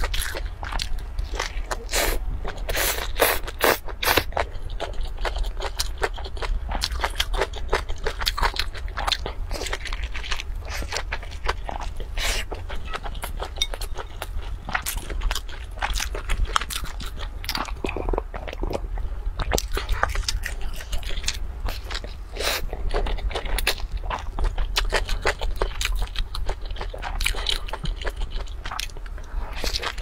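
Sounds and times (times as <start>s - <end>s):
crunching and chewing crisp roll: 0.0s - 30.0s.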